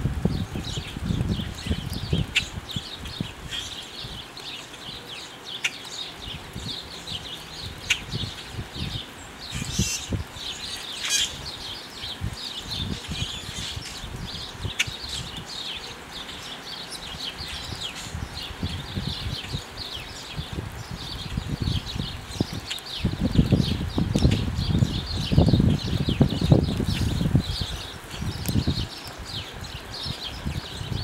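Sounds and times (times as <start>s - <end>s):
small birds chirping: 0.1s - 31.0s.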